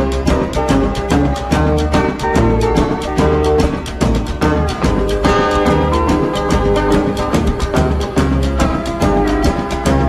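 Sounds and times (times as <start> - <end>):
background music with beat and bass: 0.0 - 10.0.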